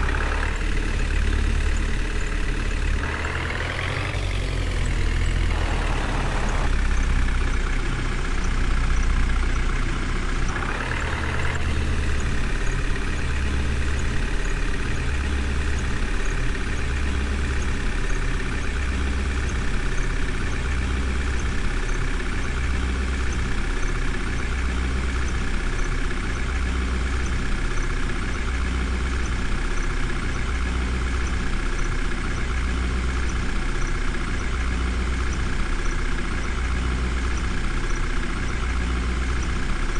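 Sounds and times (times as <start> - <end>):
engine idling with low throb: 0.0 - 39.9.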